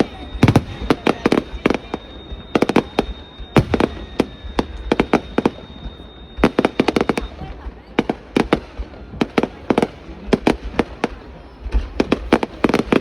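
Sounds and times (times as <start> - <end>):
fireworks bursting bangs: 0.0 - 13.0.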